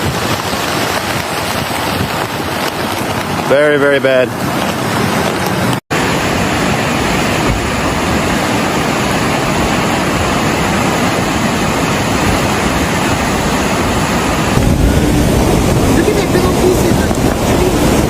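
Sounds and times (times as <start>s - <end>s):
floodwater rushing: 0.0s - 18.0s
wind buffeting microphone: 0.0s - 18.0s.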